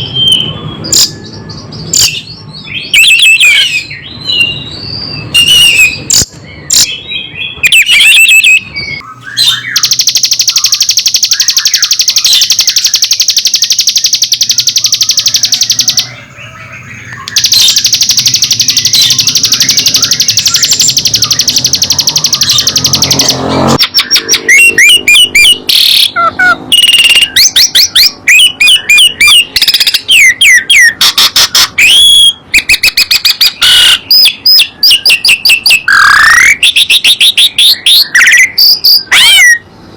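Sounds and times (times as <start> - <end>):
songbird singing: 0.0 - 39.7.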